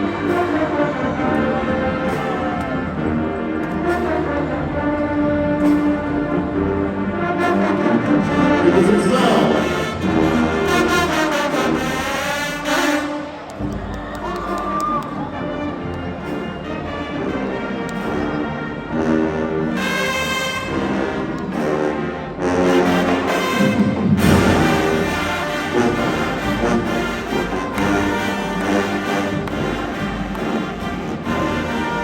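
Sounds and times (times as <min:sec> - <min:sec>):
brass band playing held chords: 0:00.0 - 0:32.0.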